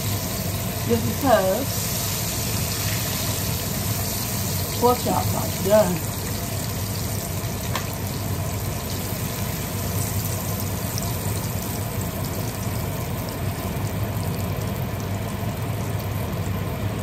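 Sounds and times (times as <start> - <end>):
hot oil sizzling in a skillet: 0.0 - 17.0
steady low hum: 0.0 - 17.0.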